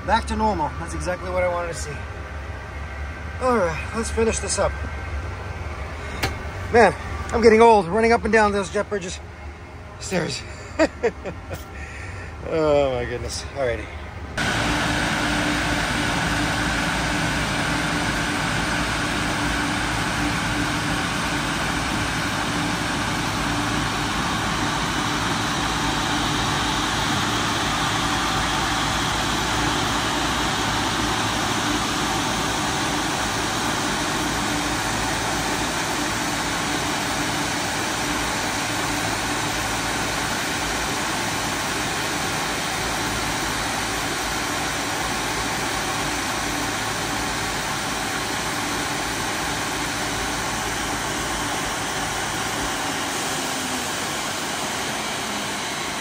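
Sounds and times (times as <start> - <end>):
machinery drone: 0.0 - 56.0.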